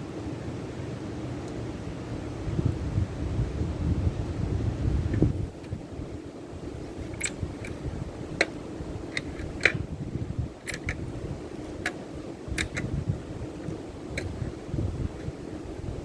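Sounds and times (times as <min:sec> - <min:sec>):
wind: 0:00.0 - 0:16.0
wood fire crackling: 0:00.0 - 0:16.0.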